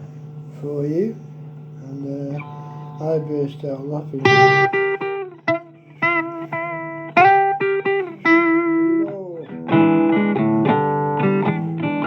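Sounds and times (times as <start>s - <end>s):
blues guitar: 0.0s - 12.0s.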